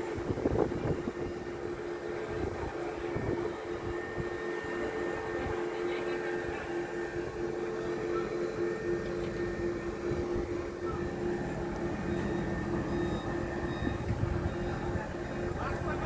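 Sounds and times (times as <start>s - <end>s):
heavy machinery rumbling and whining: 0.0s - 16.0s.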